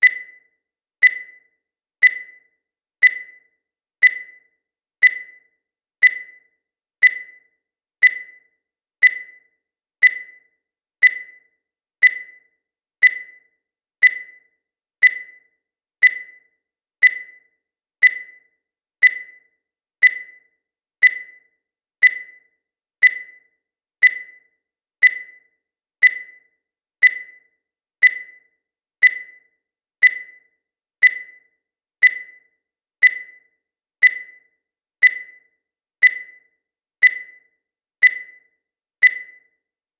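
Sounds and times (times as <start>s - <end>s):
timer beeps: 0.0s - 39.8s.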